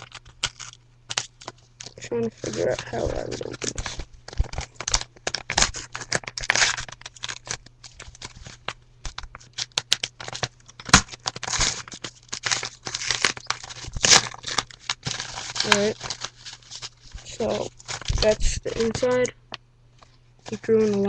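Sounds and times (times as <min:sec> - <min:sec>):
packaging crinkling and tearing: 0:00.0 - 0:19.4, 0:20.4 - 0:21.0.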